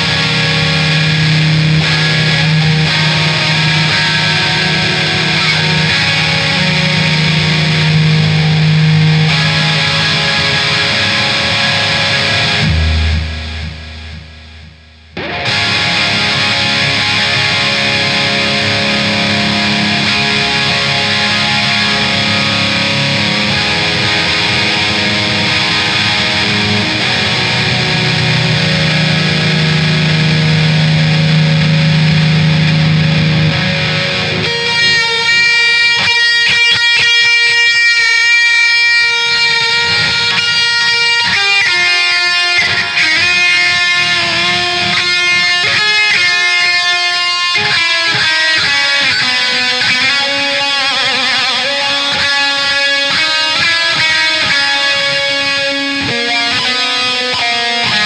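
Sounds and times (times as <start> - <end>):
electric guitar instrumental: 0.0 - 58.0.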